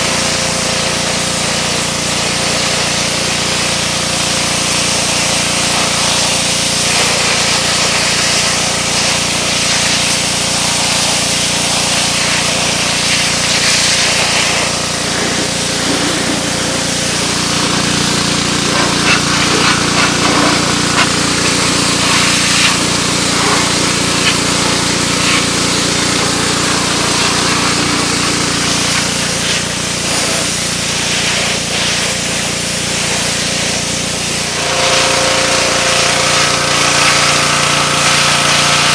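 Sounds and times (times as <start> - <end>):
pressure washer engine running: 0.0 - 38.9
water spraying hiss: 0.0 - 38.9.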